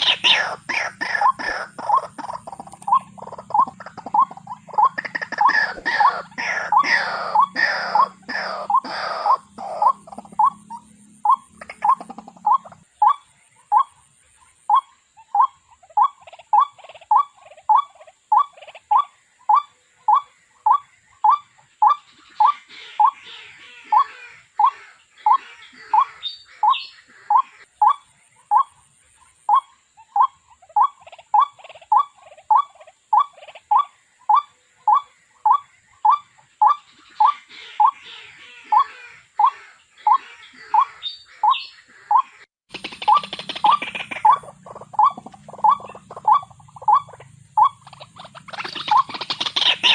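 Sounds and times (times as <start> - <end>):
water hen calling: 0.0 - 13.9, 14.7 - 28.7, 29.5 - 49.9
high-pitched bird chattering: 0.0 - 14.0, 14.6 - 49.9.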